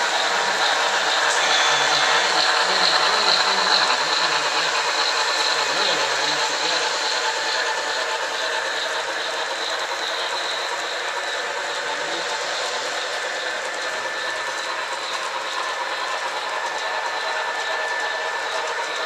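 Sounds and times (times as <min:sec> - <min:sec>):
model train motors whirring: 0:00.0 - 0:19.0.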